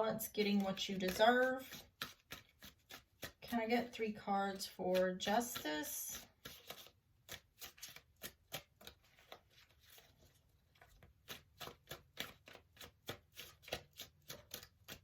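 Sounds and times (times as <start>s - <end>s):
cards being shuffled: 0.4s - 4.0s, 4.6s - 15.0s.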